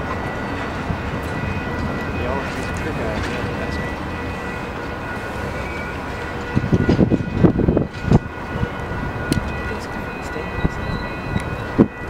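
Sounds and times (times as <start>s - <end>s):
train cars rumbling: 0.0s - 12.0s
wheels clacking over rail joints: 0.0s - 12.0s.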